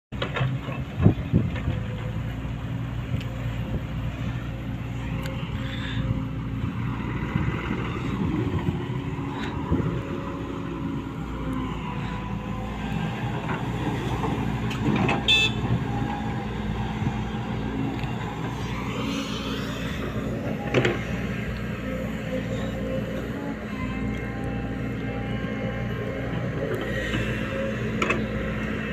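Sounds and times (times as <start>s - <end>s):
diesel engines humming: 0.2s - 28.9s.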